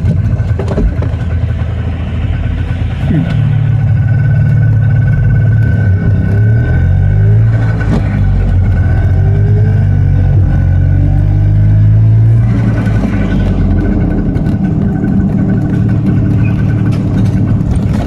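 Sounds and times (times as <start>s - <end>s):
road noise: 0.0s - 18.0s
two-stroke engine running: 0.0s - 18.0s.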